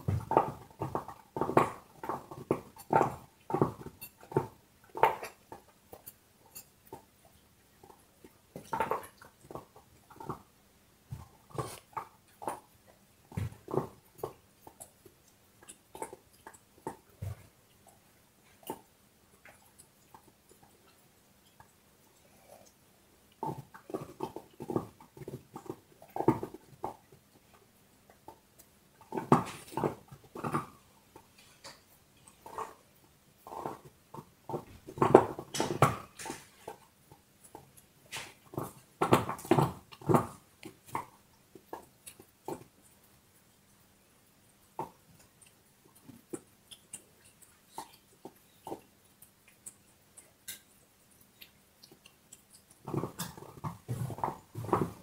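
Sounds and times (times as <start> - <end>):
dog gnawing on a bone: 0.0 - 55.0.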